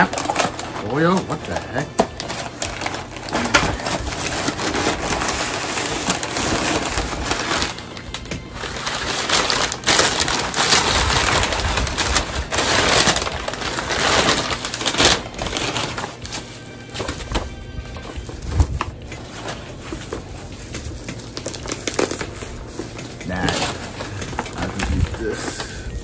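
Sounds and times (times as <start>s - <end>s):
bubble wrap handled: 0.0s - 26.0s
packing paper crinkling: 0.0s - 26.0s.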